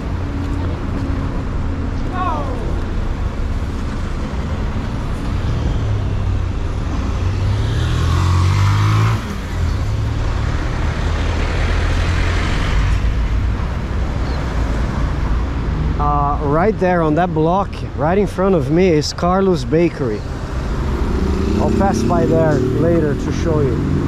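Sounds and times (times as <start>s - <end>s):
vehicle engines passing: 0.0s - 24.0s.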